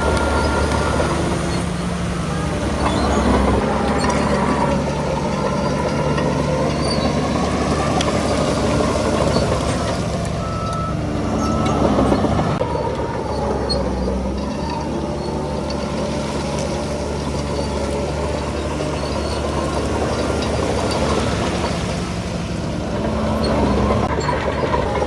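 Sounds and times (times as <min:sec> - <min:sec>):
diesel machinery engine drone: 0:00.0 - 0:25.0.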